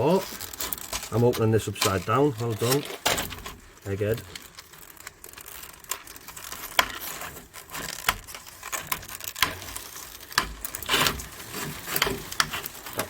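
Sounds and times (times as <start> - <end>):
small hardware parts rattling: 0.0 - 13.0.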